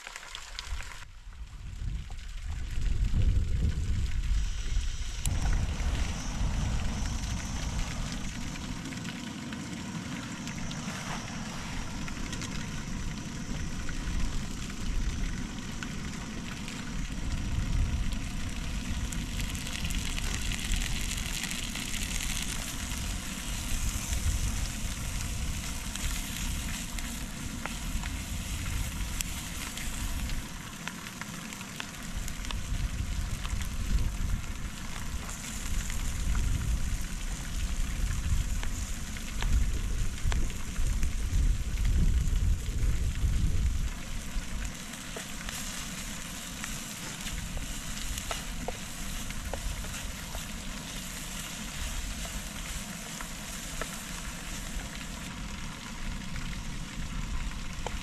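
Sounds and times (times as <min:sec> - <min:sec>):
food sizzling and crackling: 0:00.0 - 0:01.1, 0:01.8 - 0:58.0
wind rumble on microphone: 0:00.6 - 0:09.0, 0:10.3 - 0:30.6, 0:32.1 - 0:52.8.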